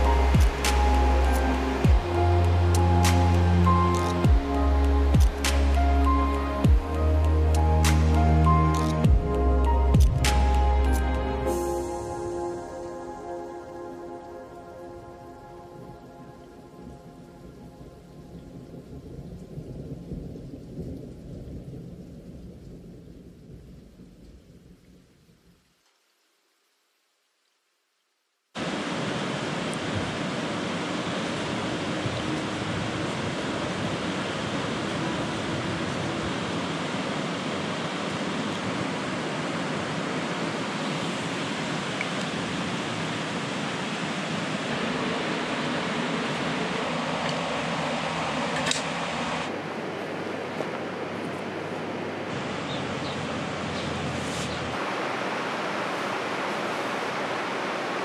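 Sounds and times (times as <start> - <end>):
running water rushing: 0.0 - 21.5, 28.6 - 58.0.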